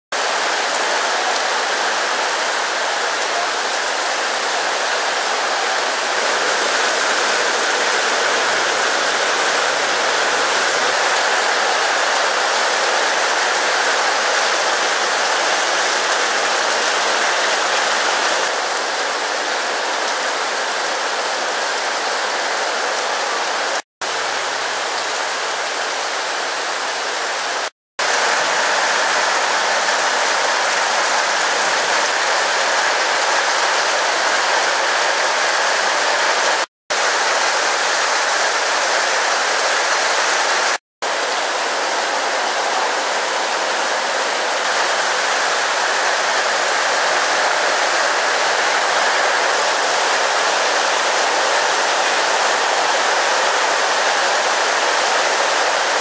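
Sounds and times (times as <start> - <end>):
heavy rain pouring: 0.1 - 56.0.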